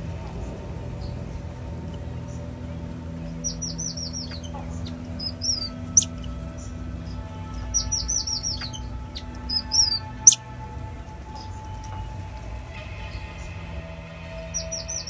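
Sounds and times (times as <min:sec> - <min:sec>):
soft background music: 0:00.0 - 0:15.0
high-pitched chirping calls: 0:01.0 - 0:15.0.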